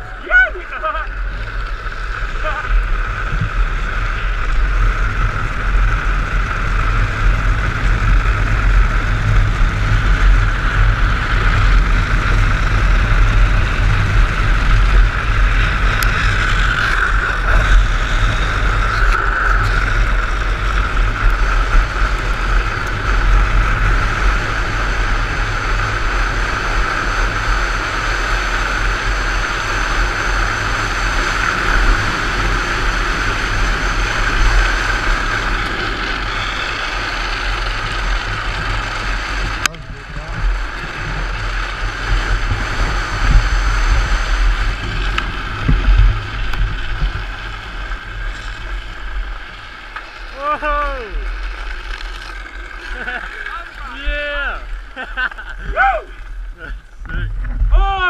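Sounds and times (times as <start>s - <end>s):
trike wheels sliding on asphalt: 0.0s - 57.8s.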